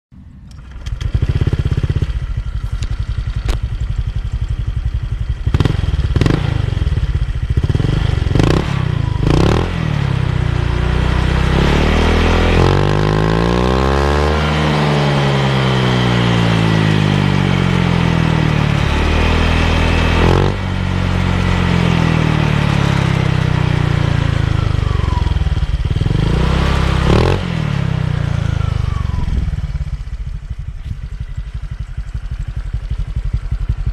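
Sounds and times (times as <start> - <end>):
scooter engine starting and revving: 0.2 - 33.9.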